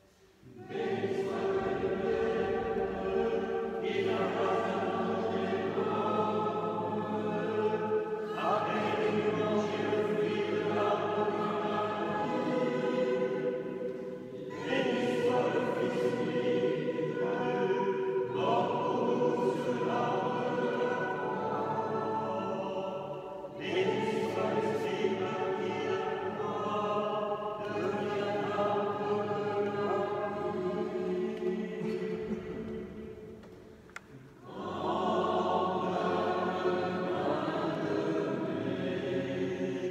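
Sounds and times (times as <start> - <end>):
choir singing chant: 0.0 - 39.9.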